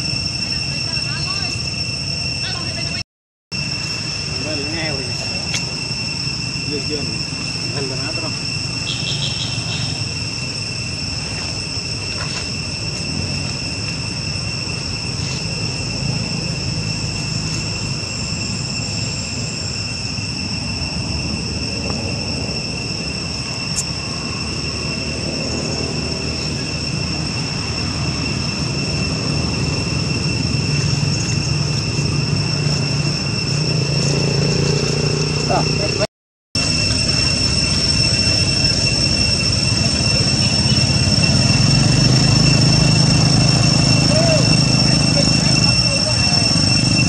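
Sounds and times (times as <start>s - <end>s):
high-pitched insect drone: 0.0s - 47.0s.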